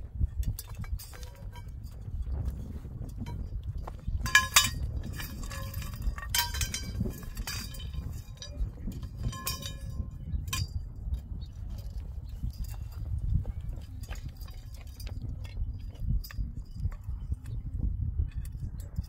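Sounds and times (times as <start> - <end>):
metal pipes clinking: 0.4 - 17.7.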